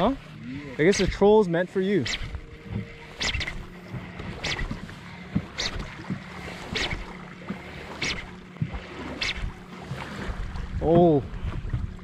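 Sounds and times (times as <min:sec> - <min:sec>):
low motor hum: 0:00.0 - 0:12.0
water splashing: 0:00.0 - 0:12.0.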